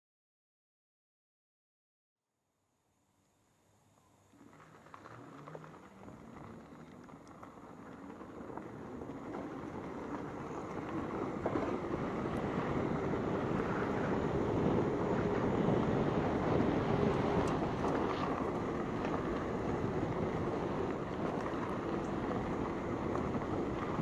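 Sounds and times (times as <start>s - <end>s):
tyres rumbling on dirt: 4.3s - 24.0s
wind on microphone: 4.8s - 24.0s.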